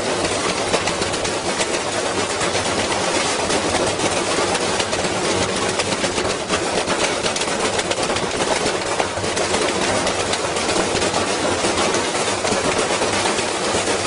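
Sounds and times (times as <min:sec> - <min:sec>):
unbalanced washing machine spinning: 0:00.0 - 0:14.0.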